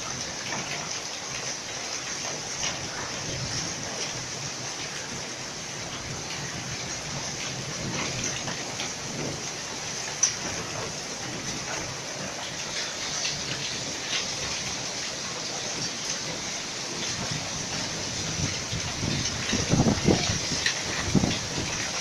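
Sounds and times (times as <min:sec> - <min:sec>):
hailstones pattering: 0:00.0 - 0:22.0.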